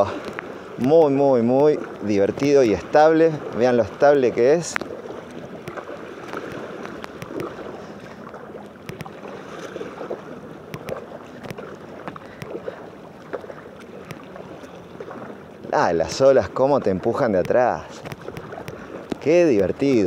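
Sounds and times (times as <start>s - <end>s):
water slapping hull and paddle: 0.0s - 20.0s
water sloshing along kayak hull: 0.0s - 20.0s.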